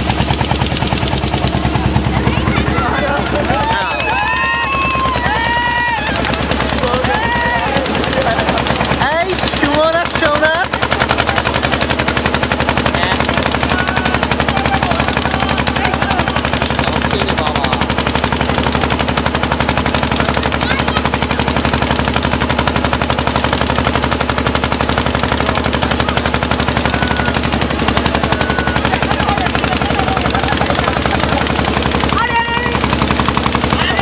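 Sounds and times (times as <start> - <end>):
boat diesel engine chugging: 0.0 - 34.0.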